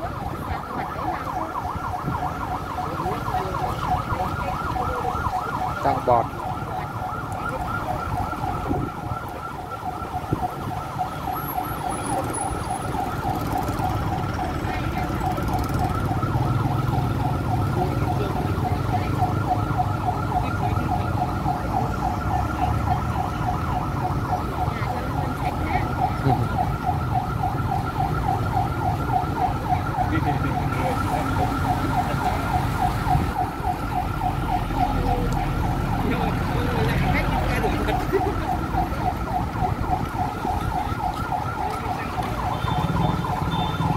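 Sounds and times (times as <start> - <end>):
fire truck siren warbling: 0.0 - 43.9.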